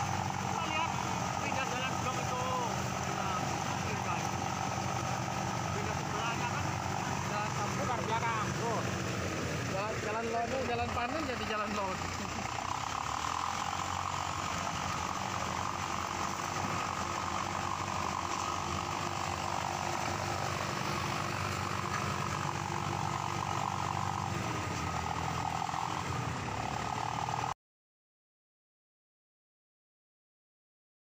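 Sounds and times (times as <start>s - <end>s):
tractor engine running: 0.0s - 27.6s.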